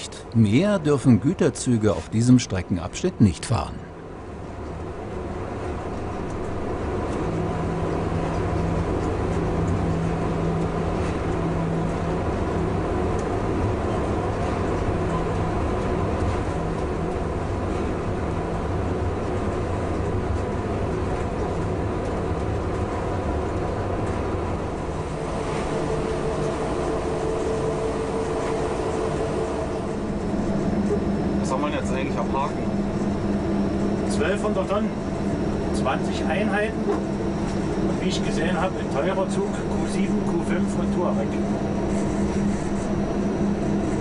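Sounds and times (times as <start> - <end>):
steady locomotive humming tones: 0.0 - 44.0
wheels rumbling on rails: 0.0 - 44.0.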